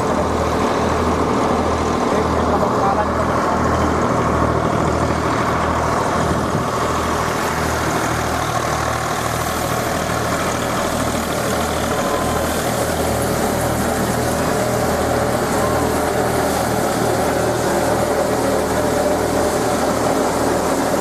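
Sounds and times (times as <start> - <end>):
engine drone: 0.0 - 21.0
threshing drum whirring: 0.0 - 21.0.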